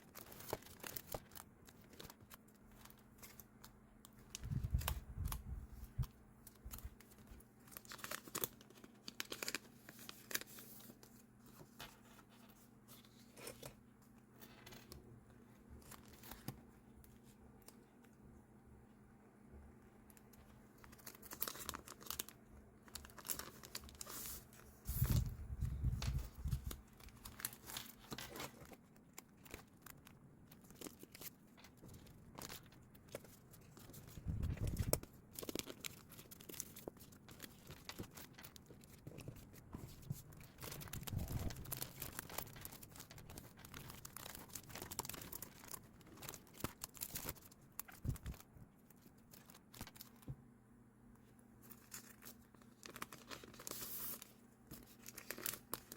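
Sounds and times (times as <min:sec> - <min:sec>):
paper crinkling and rustling: 0:00.0 - 0:18.2, 0:20.1 - 0:50.4, 0:51.6 - 0:55.9.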